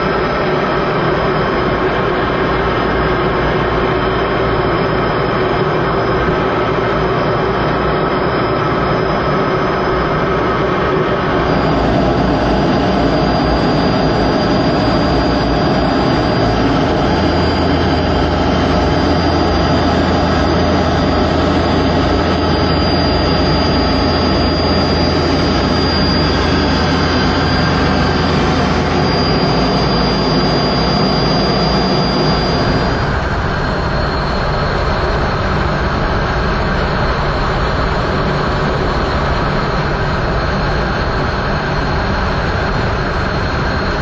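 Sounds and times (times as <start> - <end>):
thin high whine: 0.0 - 40.2
deeper hum: 0.0 - 40.4
jet aircraft engine and airflow: 0.0 - 44.0.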